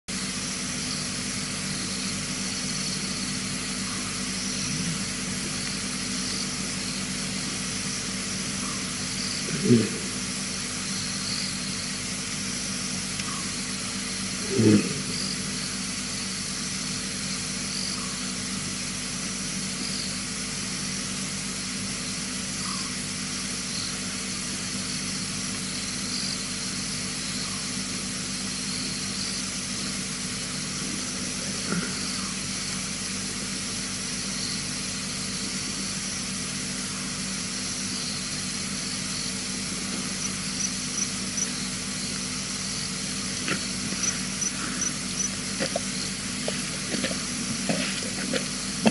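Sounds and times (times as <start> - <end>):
constant hiss: 0.1 - 48.9
faint hum: 0.1 - 48.9.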